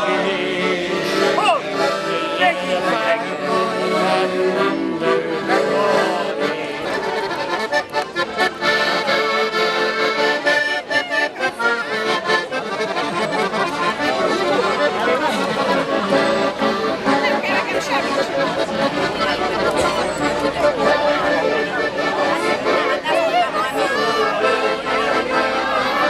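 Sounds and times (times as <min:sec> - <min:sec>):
piano accordion playing chords: 0:00.0 - 0:26.0.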